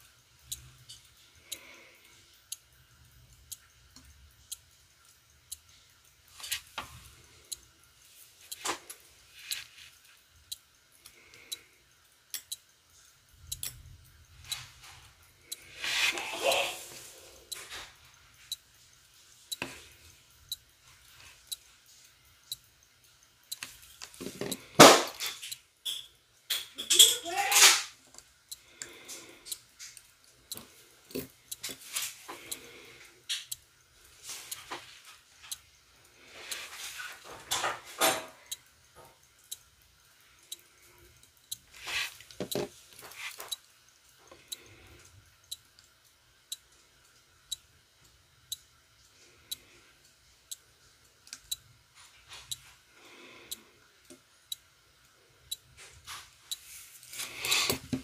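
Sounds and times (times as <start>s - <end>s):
fingers clicking and tapping watch parts: 0.0s - 7.7s, 8.4s - 35.7s, 36.4s - 46.8s, 50.4s - 52.8s, 53.5s - 58.0s.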